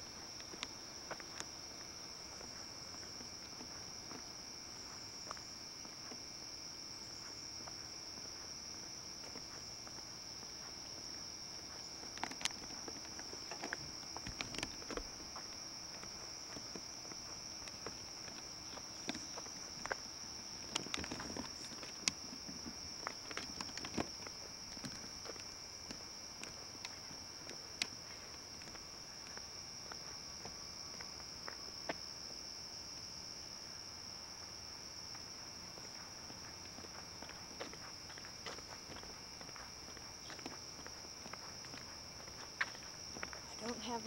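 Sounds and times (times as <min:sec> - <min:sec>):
footsteps: 0:00.0 - 0:32.2, 0:33.7 - 0:44.0
insect chorus: 0:00.0 - 0:44.0.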